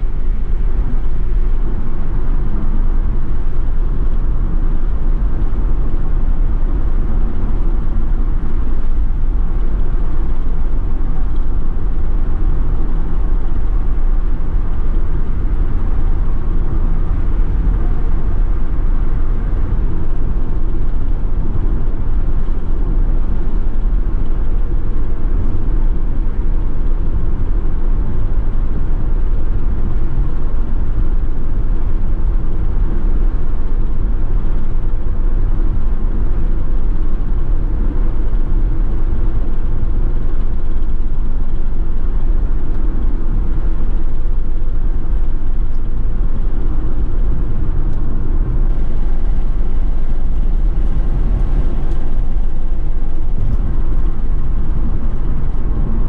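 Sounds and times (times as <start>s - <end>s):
car road noise from inside cabin: 0.0s - 56.0s.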